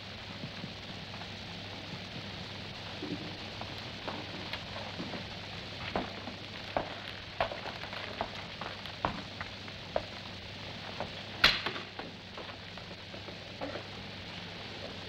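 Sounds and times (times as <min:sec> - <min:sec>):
film soundtrack hiss and hum: 0:00.0 - 0:15.0
clicks and crackles: 0:00.2 - 0:15.0.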